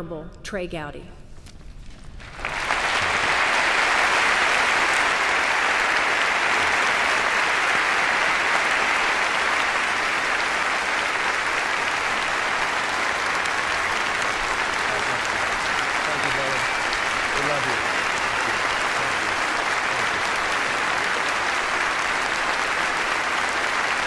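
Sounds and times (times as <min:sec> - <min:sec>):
large audience applauding: 0:02.2 - 0:24.0.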